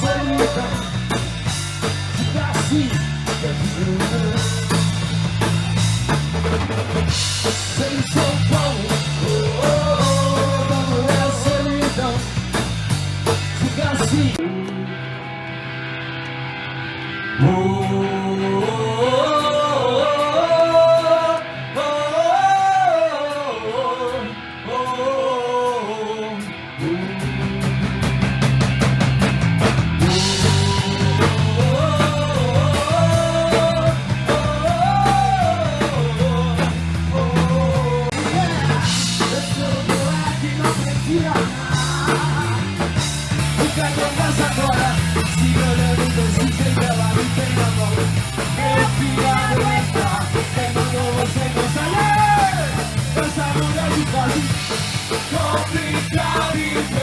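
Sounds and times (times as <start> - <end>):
lead singer singing: 0.0 - 5.6, 7.1 - 12.7, 13.5 - 15.2, 17.4 - 27.8, 30.0 - 57.0
live rock band playing: 0.0 - 57.0.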